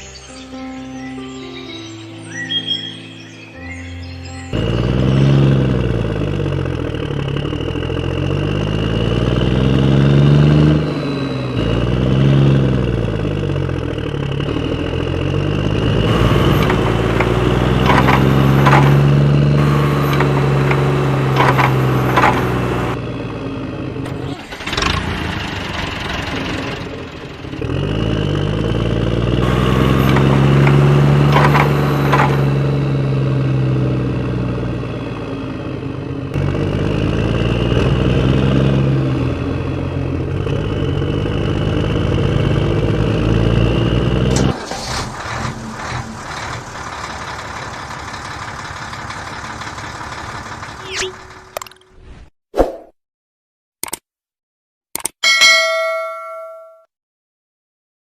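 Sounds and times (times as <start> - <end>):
vehicle engine revving: 4.5 - 51.6.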